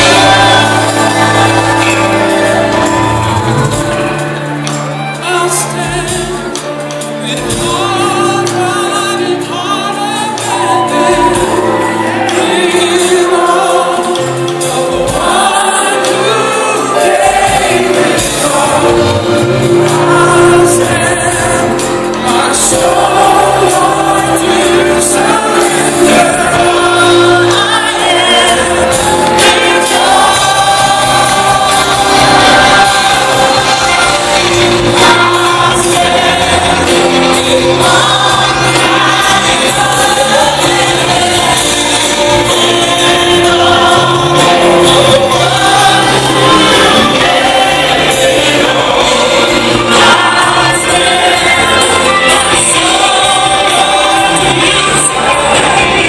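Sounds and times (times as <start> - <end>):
amplified band playing: 0.0 - 56.0
group singing into microphones: 0.0 - 56.0.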